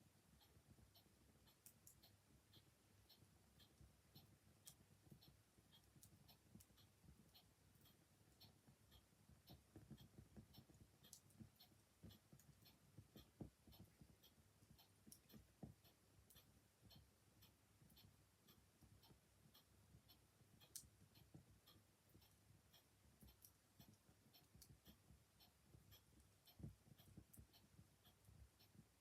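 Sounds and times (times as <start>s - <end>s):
clock ticking: 0.0s - 29.0s.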